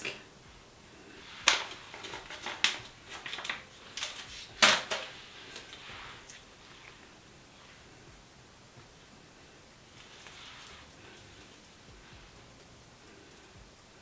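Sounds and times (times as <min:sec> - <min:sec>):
soft rustling: 0:00.4 - 0:14.0.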